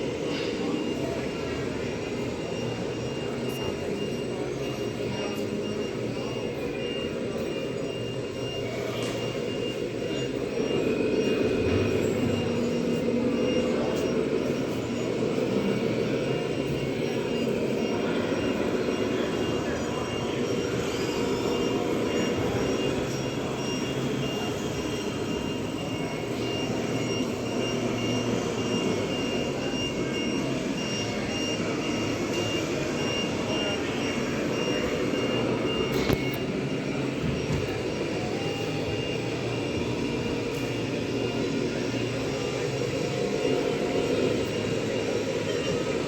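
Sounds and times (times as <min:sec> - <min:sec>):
faint high beeps: 0:00.0 - 0:46.0
mechanical whirring hum: 0:00.0 - 0:46.0.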